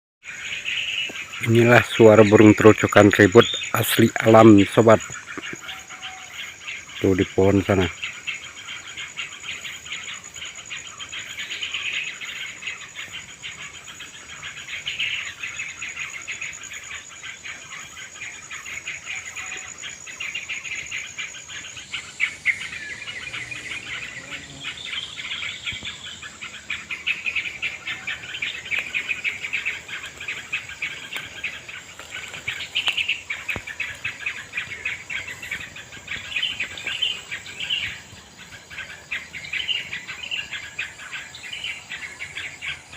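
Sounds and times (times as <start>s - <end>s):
bulbuls chattering and calling: 0.2s - 42.9s
high insect drone: 0.2s - 42.9s.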